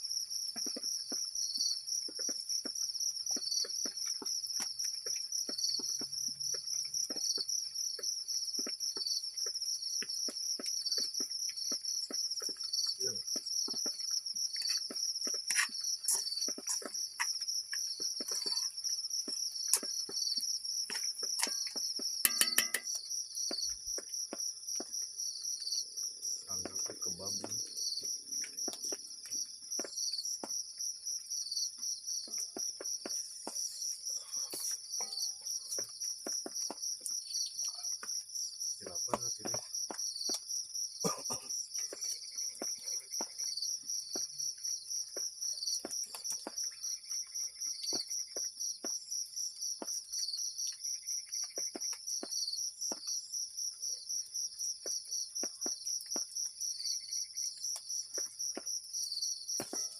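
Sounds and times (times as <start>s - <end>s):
insect chorus trilling: 0.0s - 59.9s.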